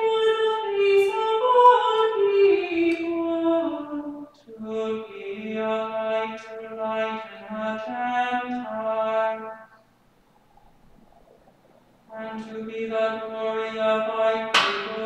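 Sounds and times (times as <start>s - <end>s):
unaccompanied singing: 0.0s - 9.7s, 12.1s - 15.0s.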